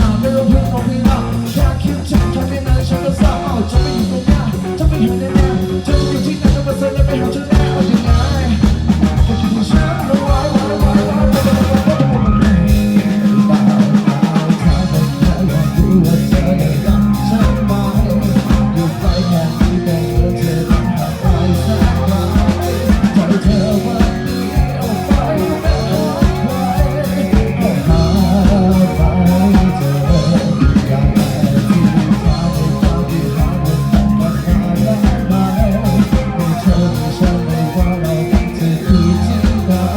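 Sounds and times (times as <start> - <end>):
bass line: 0.0 - 39.9
drum kit beat: 0.0 - 39.9
person singing: 0.0 - 39.9.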